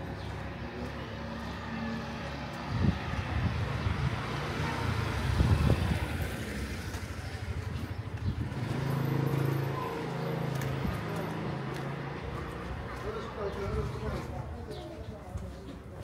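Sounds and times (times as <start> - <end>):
motorcycle passing by: 0.2 - 14.3.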